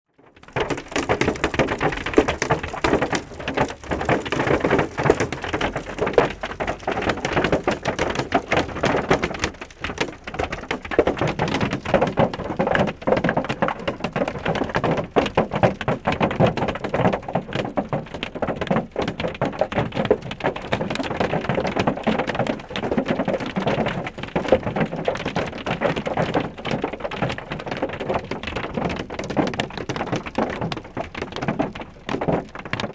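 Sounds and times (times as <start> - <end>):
hail and rain on car roof: 0.4 - 32.9.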